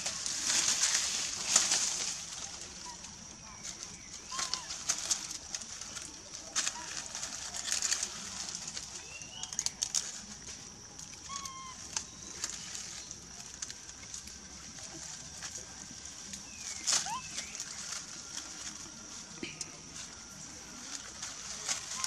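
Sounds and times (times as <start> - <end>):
dry leaves rustling and crackling: 0.0 - 22.0.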